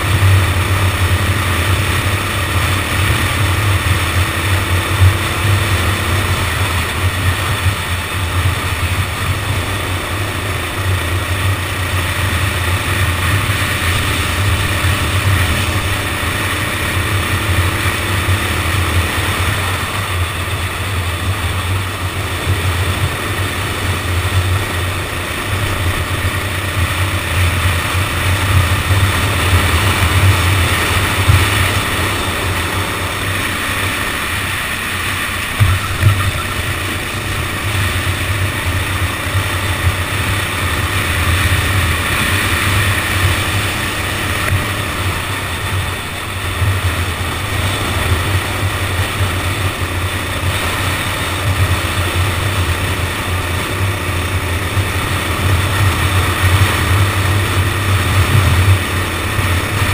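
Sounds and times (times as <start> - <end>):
go-kart engine running: 0.0 - 59.9.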